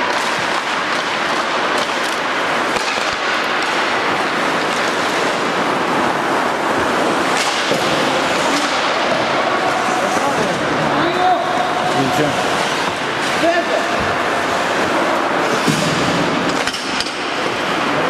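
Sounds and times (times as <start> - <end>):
hockey sticks and puck clacking: 0.0 - 18.0
skate blades scraping ice: 0.0 - 18.0.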